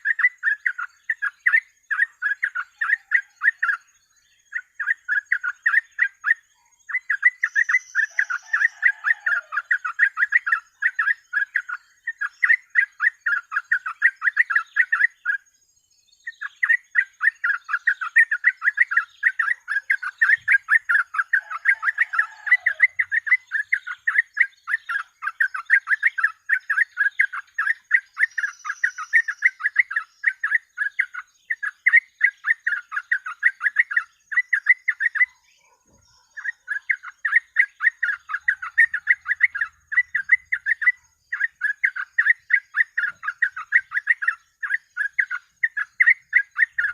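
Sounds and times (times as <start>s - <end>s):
bulbul singing: 0.0s - 46.9s.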